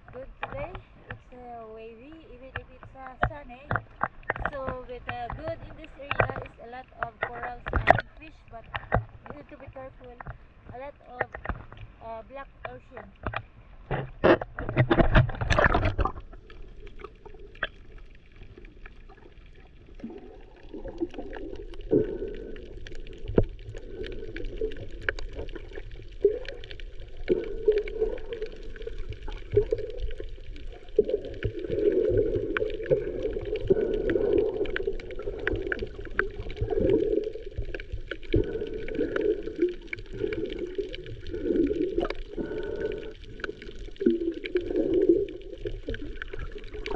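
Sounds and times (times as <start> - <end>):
muffled underwater gurgling: 0.0 - 46.9
sharp underwater clicks: 0.0 - 46.9.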